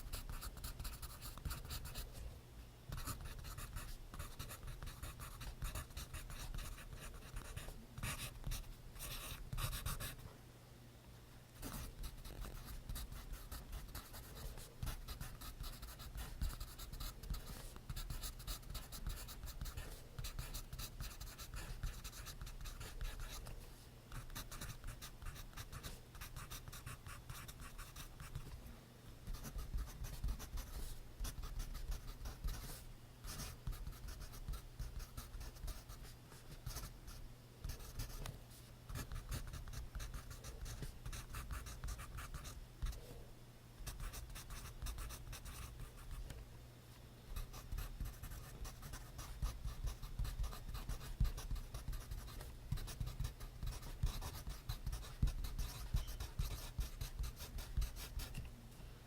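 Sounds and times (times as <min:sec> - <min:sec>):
pencil scratching on paper: 0:02.9 - 0:10.2, 0:11.6 - 0:23.5, 0:24.1 - 0:28.5, 0:29.3 - 0:36.9, 0:38.9 - 0:43.0, 0:43.8 - 0:46.2, 0:47.4 - 0:58.3.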